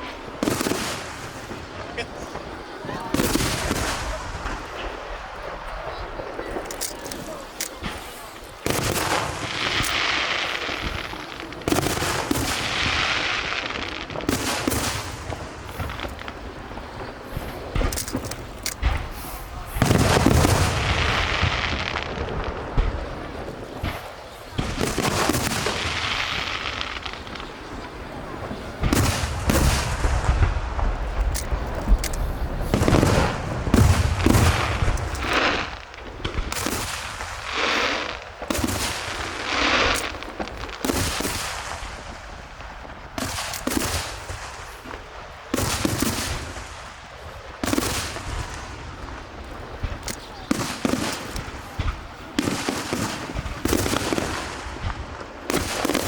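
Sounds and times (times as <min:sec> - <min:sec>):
fireworks bursting with bangs: 0:00.0 - 0:56.0
fireworks crackle and rumble: 0:00.0 - 0:56.0.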